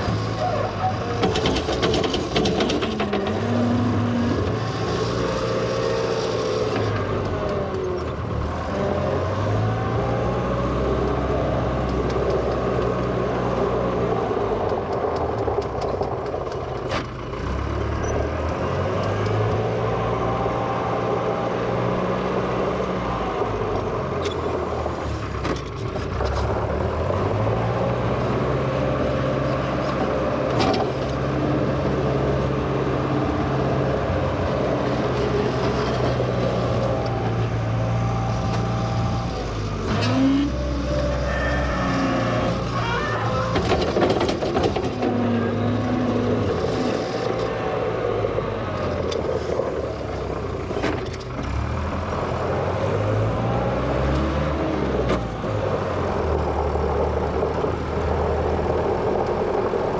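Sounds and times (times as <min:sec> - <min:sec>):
wheel loader engine running: 0:00.0 - 0:59.9.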